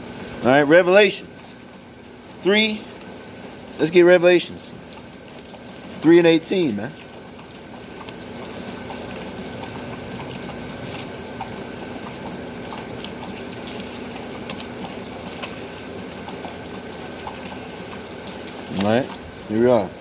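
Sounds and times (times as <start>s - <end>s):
raindrops ticking: 0.0s - 20.0s.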